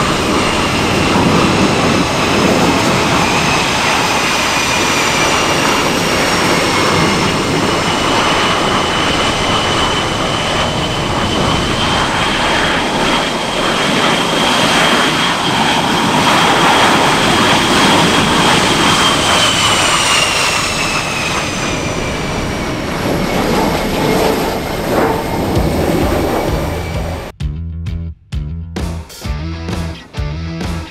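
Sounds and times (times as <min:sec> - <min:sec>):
jet aircraft flying past: 0:00.0 - 0:27.3.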